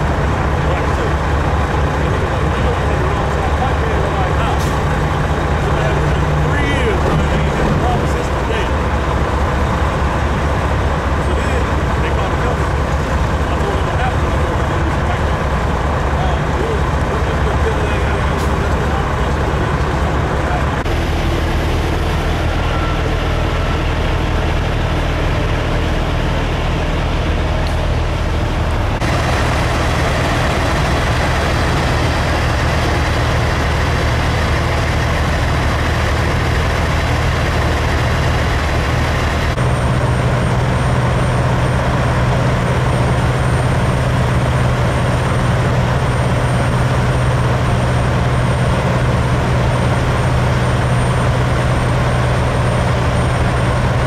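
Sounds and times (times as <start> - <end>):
truck diesel engines idling: 0.0 - 54.0.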